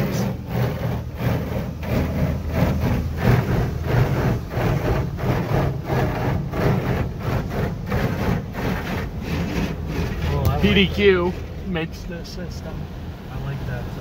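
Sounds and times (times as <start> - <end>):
liquid spraying on car: 0.0 - 14.0.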